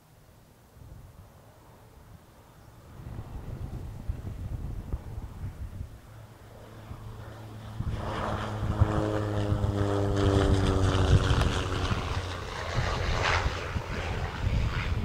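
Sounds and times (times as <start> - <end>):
propeller plane passing: 0.6 - 15.0.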